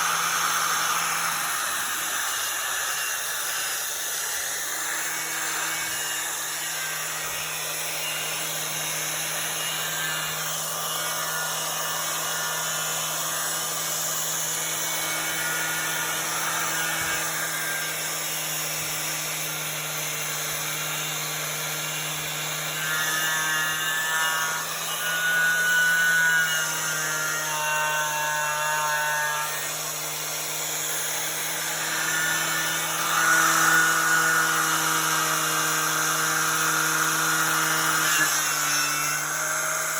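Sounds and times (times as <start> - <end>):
angle grinder with wire wheel: 0.0 - 39.9.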